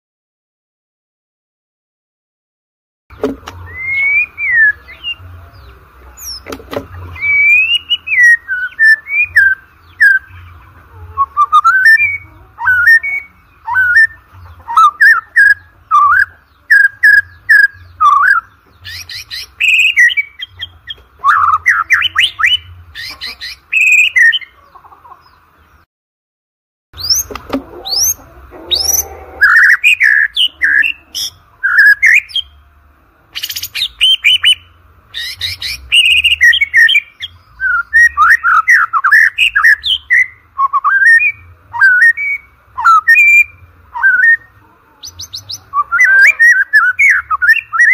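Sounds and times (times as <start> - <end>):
bird singing whistled song: 3.2 - 10.5, 11.2 - 24.5, 27.0 - 32.6, 33.3 - 47.9.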